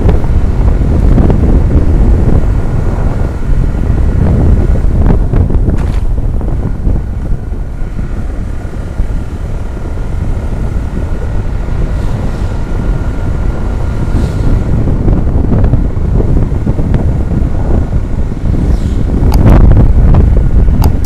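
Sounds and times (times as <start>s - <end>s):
faint steady whine: 0.0s - 21.0s
truck engine and tyres rumbling: 0.0s - 21.0s
wind buffeting microphone: 0.0s - 21.0s.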